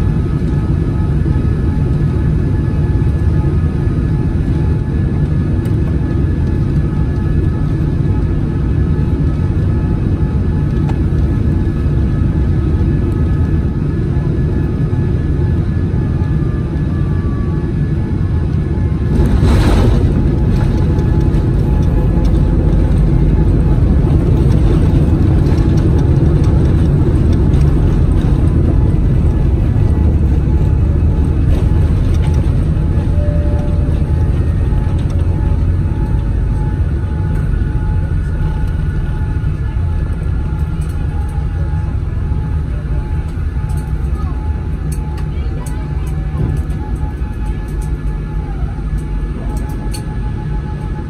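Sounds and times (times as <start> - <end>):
airliner cabin rumble: 0.0 - 51.0.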